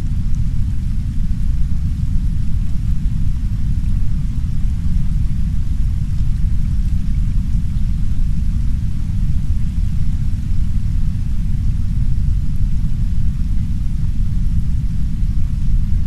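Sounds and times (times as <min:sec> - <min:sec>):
deep brown noise rumble: 0:00.0 - 0:16.0
soft rain hiss: 0:00.0 - 0:16.0.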